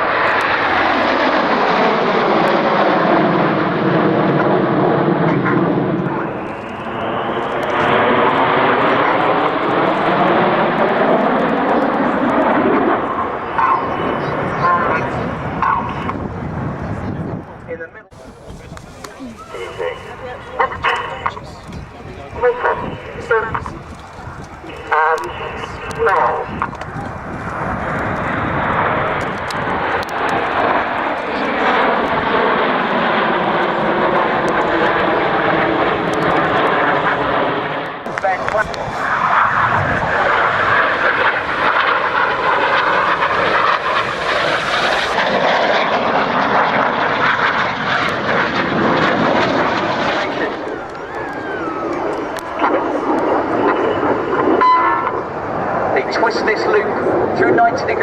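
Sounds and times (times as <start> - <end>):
jets flying past: 0.0 - 58.0.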